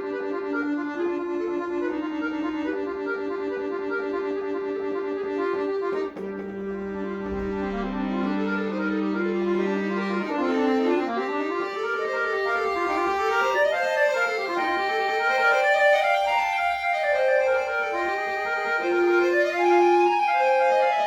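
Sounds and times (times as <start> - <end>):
button accordion solo: 0.0 - 21.0.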